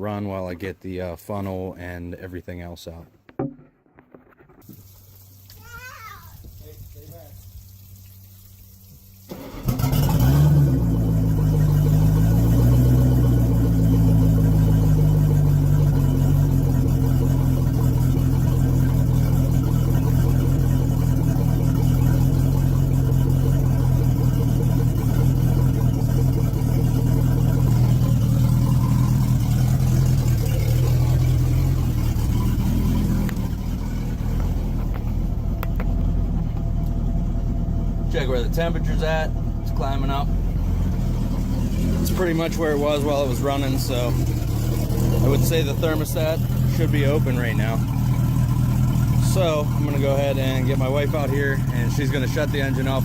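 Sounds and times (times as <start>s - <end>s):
boat engine starting and idling: 6.4s - 53.0s.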